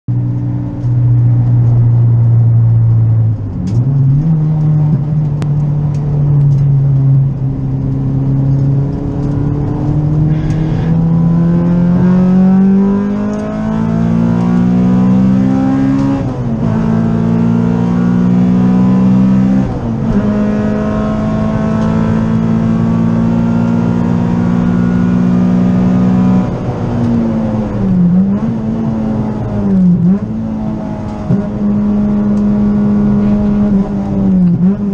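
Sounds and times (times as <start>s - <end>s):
car engine running hard: 0.1s - 34.9s.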